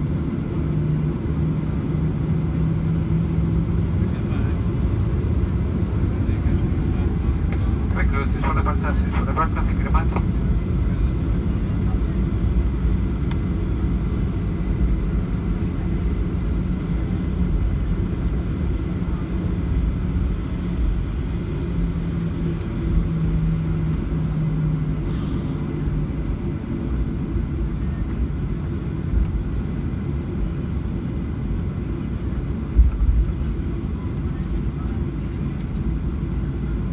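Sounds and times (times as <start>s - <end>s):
airplane cabin engine rumble: 0.0s - 36.9s.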